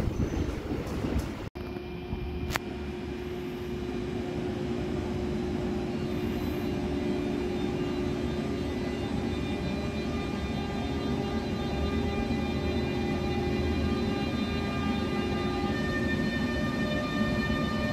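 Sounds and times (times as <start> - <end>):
held whine: 0.0 - 17.9
locomotive drone: 0.0 - 17.9.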